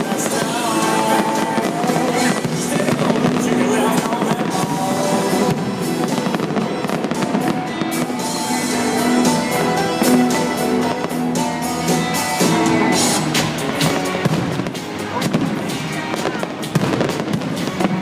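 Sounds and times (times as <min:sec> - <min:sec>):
fireworks bursting and crackling: 0:00.0 - 0:18.0
music playing: 0:00.0 - 0:18.0.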